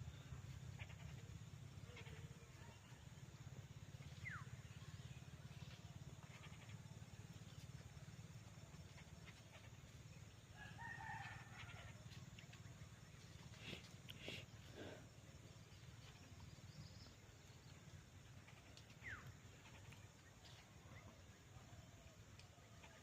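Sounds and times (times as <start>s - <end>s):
faint animal call: 0.0s - 12.7s, 13.3s - 23.0s
steady low hum: 0.0s - 23.0s.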